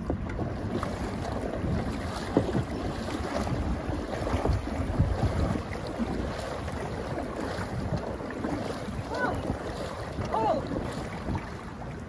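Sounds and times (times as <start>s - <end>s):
paddles splashing in water: 0.0s - 12.0s
wind buffeting microphone: 0.0s - 12.0s.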